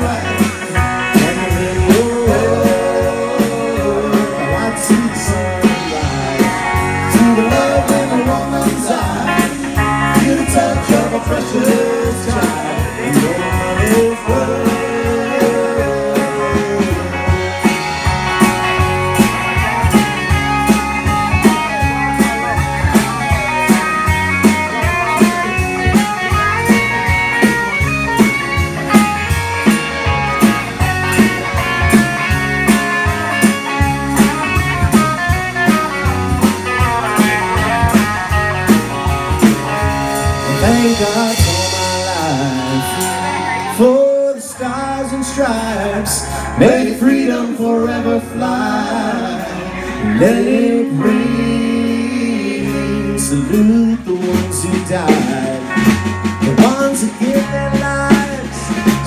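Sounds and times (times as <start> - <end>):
steady drum beat: 0.0 - 44.1, 51.9 - 59.0
bass guitar: 0.0 - 59.0
electric guitars: 0.0 - 59.0.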